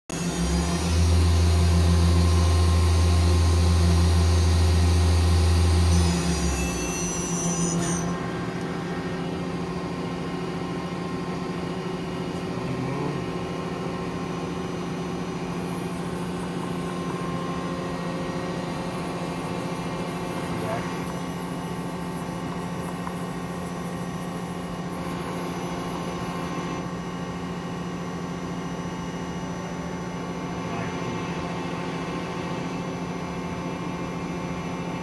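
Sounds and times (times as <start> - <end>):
lathe humming with high hiss: 0.1 - 12.5, 13.3 - 35.0.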